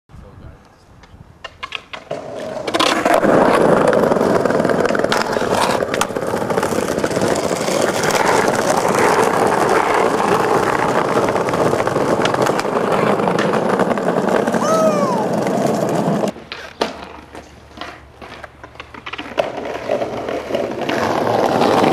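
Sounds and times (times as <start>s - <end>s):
skateboard clacks: 1.0s - 21.9s
skateboard wheels rolling on bricks: 1.0s - 21.9s.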